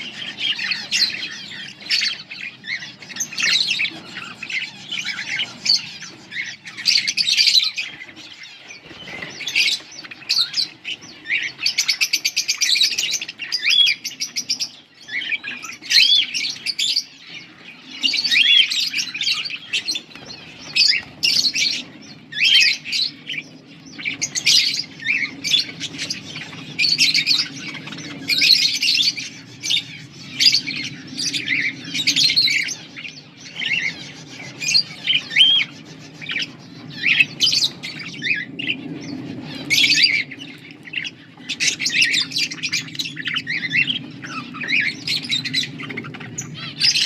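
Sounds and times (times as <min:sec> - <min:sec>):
budgerigars chattering: 0:00.0 - 0:47.0.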